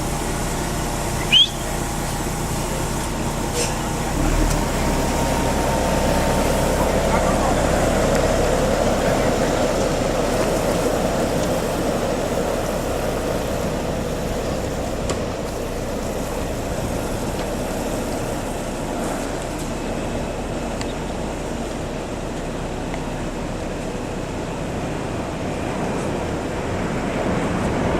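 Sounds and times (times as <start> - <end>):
heavy vehicle engine running: 0.0 - 27.9.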